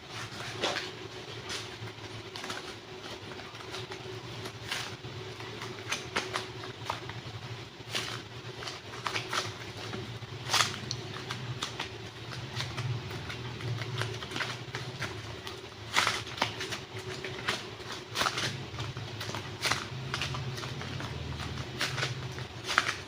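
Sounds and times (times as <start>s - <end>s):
low steady hum: 0.0s - 23.0s
clay packaging crackles and clicks: 0.1s - 23.0s.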